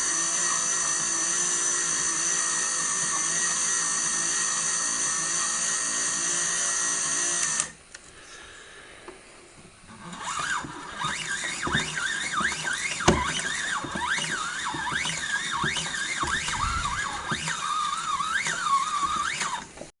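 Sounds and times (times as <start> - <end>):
toy washing machine whine: 0.0 - 7.8, 9.9 - 19.7.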